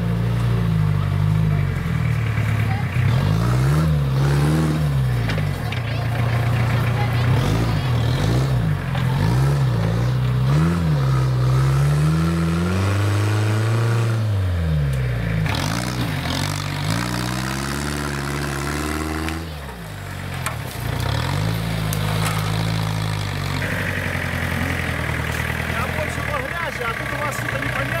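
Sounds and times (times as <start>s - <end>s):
small tractor engine revving: 0.0s - 28.0s.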